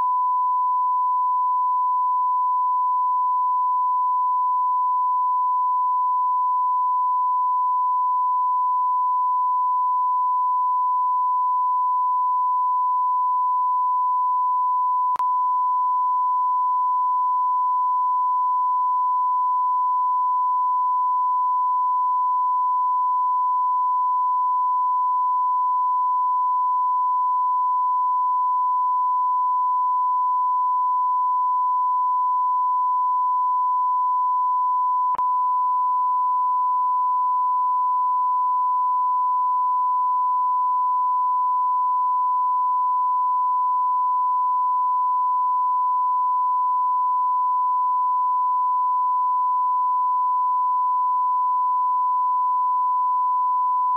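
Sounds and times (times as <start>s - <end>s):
sine-wave test tone: 0.0s - 53.9s.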